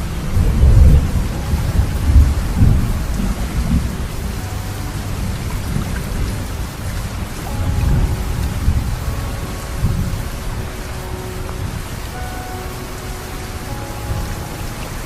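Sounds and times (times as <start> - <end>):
deep uneven rumbling: 0.0 - 15.0
heavy rain falling: 0.0 - 15.0.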